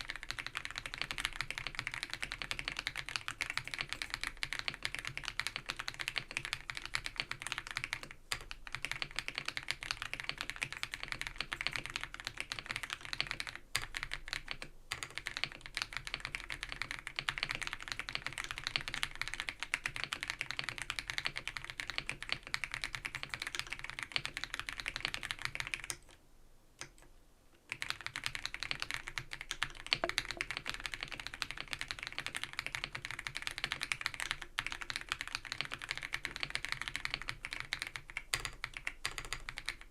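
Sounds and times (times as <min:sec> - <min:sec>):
mechanical keyboard typing: 0:00.0 - 0:26.2, 0:27.7 - 0:39.9.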